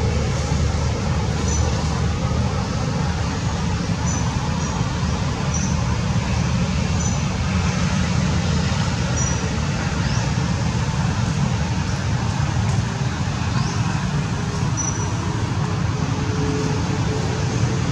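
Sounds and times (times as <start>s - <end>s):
low outdoor rumble: 0.0s - 17.9s.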